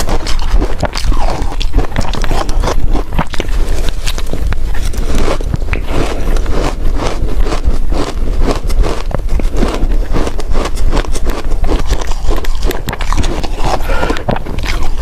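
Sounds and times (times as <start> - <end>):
crunching and chewing ice: 0.0 - 15.0.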